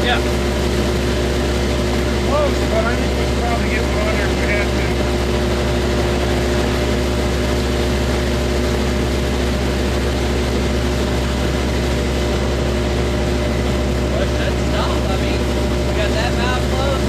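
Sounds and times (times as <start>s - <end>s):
large engine droning steadily: 0.0s - 17.0s.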